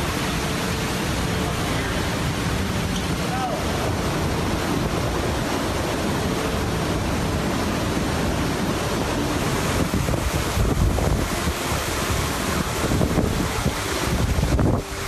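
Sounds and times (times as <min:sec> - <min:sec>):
storm wind and surf rushing: 0:00.0 - 0:15.0
wind buffeting microphone: 0:00.0 - 0:15.0.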